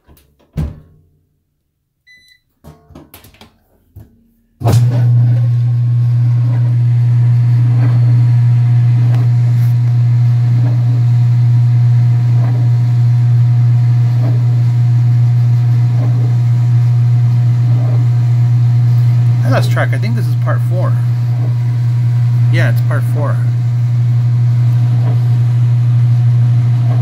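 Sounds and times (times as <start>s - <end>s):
washing machine motor hum: 4.6s - 27.0s.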